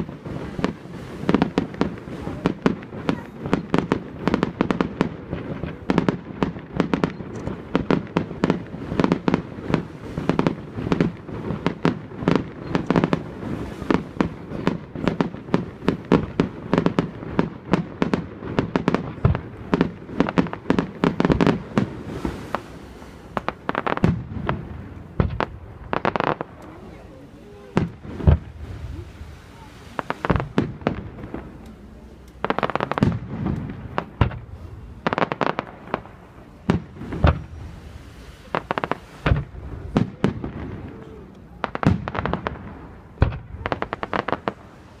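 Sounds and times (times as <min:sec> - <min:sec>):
fireworks bangs: 0:00.0 - 0:45.0.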